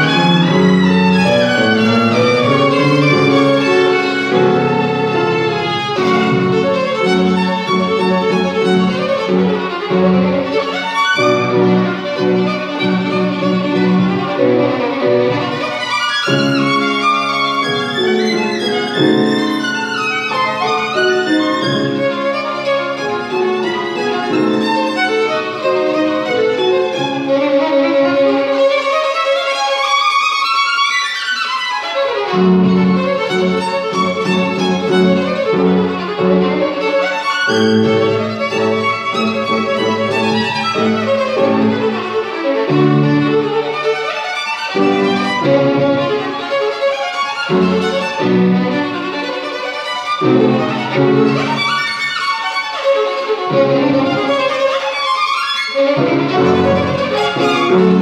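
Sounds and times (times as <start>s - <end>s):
piano accompaniment: 0.0s - 58.0s
violin melody: 0.0s - 58.0s.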